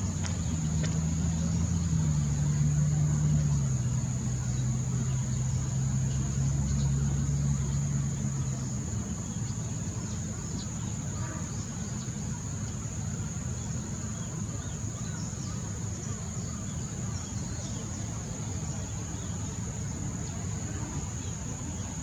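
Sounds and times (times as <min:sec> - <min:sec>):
low outdoor rumble: 0:00.0 - 0:22.0
steady high-pitched whine: 0:00.0 - 0:22.0
vehicle engine humming: 0:00.0 - 0:22.0.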